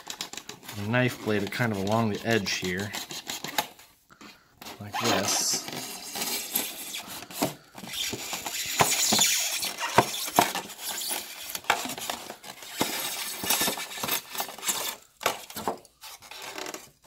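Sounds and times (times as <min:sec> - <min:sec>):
knife blade scraping styrofoam: 0:00.0 - 0:03.8, 0:04.7 - 0:17.0.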